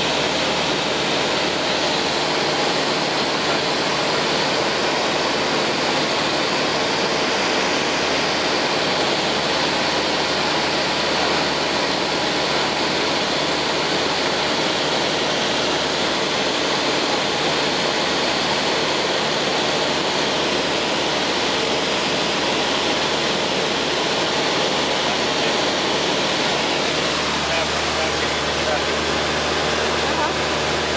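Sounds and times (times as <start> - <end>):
faint steady drone: 0.0 - 30.9
plane engine and propeller: 0.0 - 30.9.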